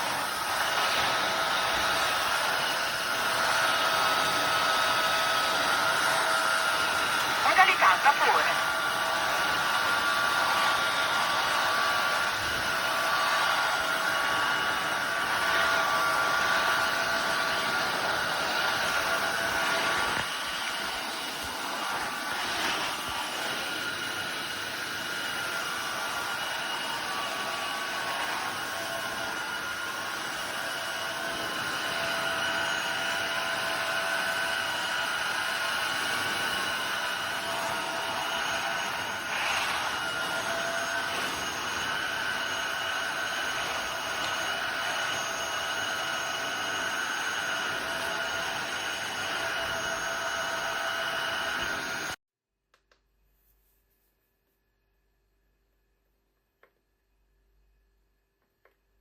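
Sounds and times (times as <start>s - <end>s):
floor cleaner motor whine: 0.0s - 52.2s.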